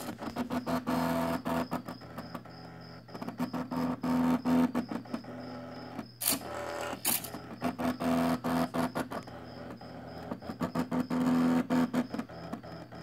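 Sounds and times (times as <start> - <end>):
stepper motors buzzing: 0.0 - 13.0.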